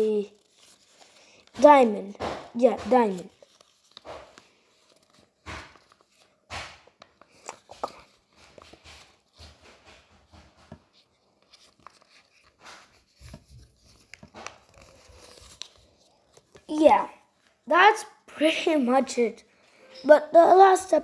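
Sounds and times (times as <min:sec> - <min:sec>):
paper rustling and crinkling: 0:00.0 - 0:17.6.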